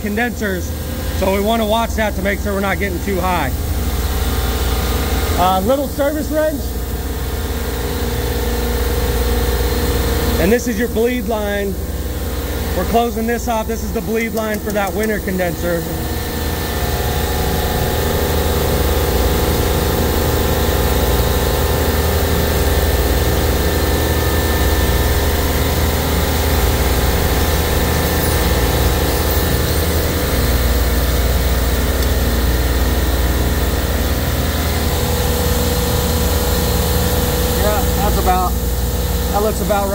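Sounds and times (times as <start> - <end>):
refrigeration compressors humming: 0.0 - 39.9.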